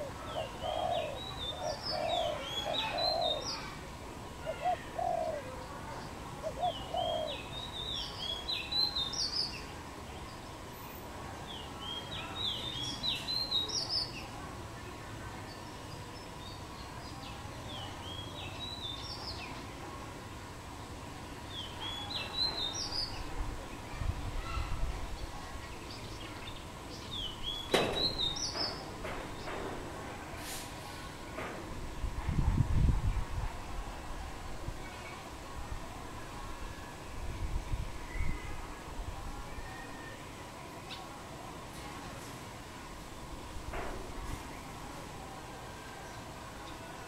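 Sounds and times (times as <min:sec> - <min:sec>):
background hiss: 0:00.0 - 0:47.0.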